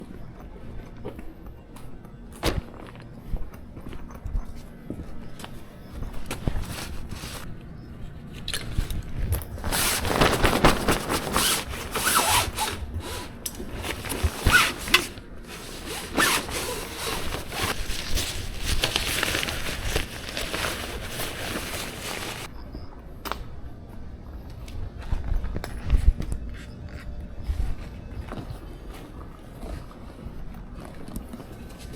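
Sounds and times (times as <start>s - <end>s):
rustling and scraping handling noise: 0.0s - 22.5s, 24.6s - 31.9s.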